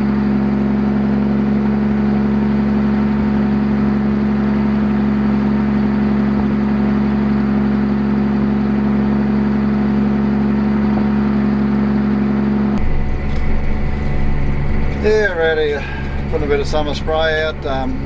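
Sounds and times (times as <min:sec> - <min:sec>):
rough cab noise: 0:00.0 - 0:18.0
tractor engine drone in cab: 0:00.0 - 0:18.0.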